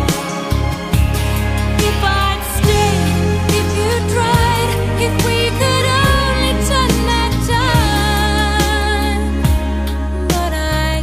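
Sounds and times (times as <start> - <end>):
slow pop ballad: 0.0 - 11.0.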